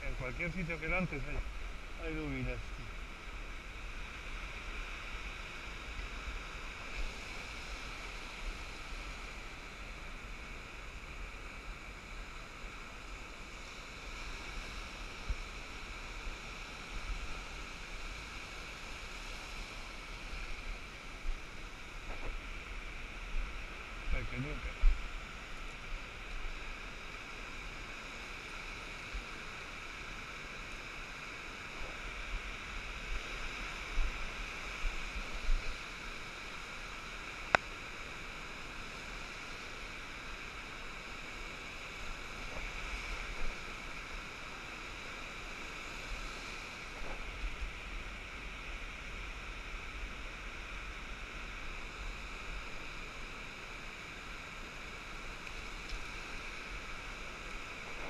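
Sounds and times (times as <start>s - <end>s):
surf washing on beach: 0.0s - 58.0s
wind rumbling on microphone: 0.0s - 58.0s.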